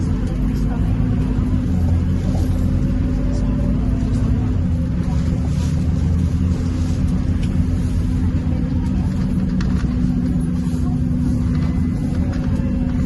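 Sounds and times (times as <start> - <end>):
bus diesel engine rumbling: 0.0 - 13.0
constant hum: 0.0 - 13.0.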